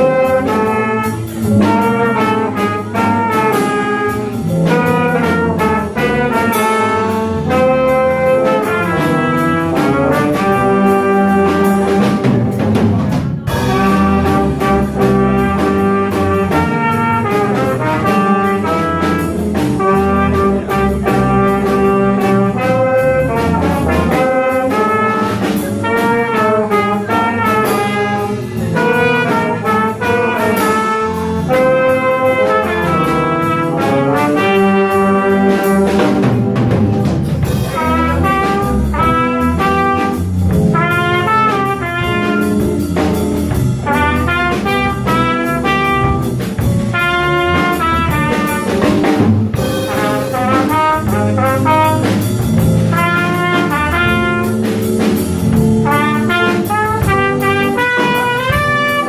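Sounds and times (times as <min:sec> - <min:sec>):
small jazz ensemble playing: 0:00.0 - 0:59.0.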